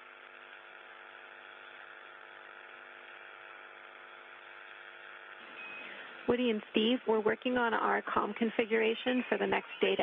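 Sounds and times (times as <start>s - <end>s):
constant hum: 0.0s - 10.0s
radio static hiss: 0.0s - 10.0s.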